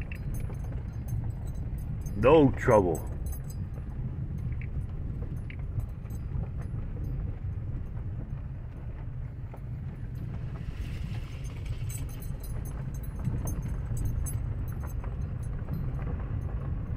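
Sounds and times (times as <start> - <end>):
gravel clicking under tyres: 0.0 - 2.2, 2.9 - 16.9
tyres and engine rumble: 0.0 - 16.9.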